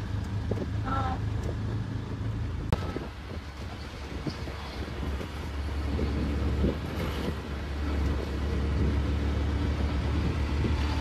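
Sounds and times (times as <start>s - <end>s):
motor vehicles rumbling: 0.0s - 11.0s
street noise: 0.0s - 11.0s.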